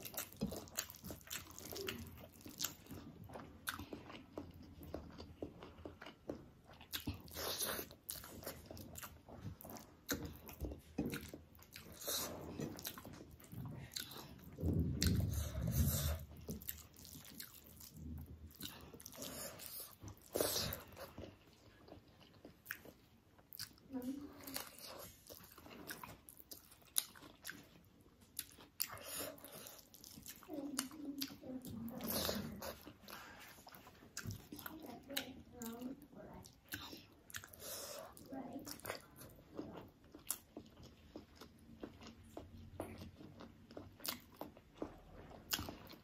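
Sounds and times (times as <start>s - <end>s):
person chewing food: 0.0s - 46.0s.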